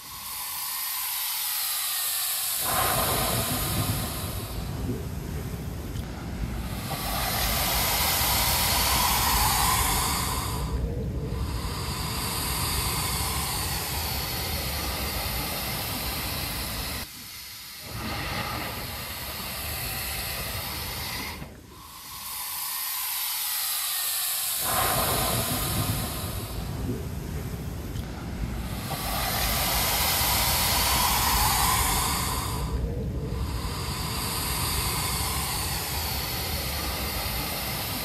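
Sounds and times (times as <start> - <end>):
blowhole rushing hiss of air: 0.0 - 38.0.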